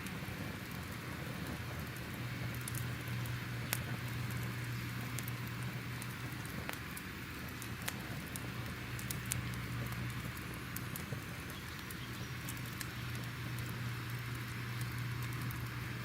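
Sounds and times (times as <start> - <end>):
fire crackling: 0.0 - 16.0
low hiss and rumble: 0.0 - 16.0.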